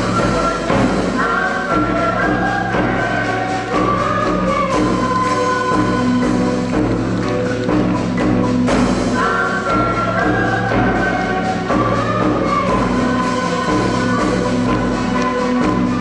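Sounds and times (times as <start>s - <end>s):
instrumental ensemble music: 0.0s - 16.0s
light percussion: 0.0s - 16.0s.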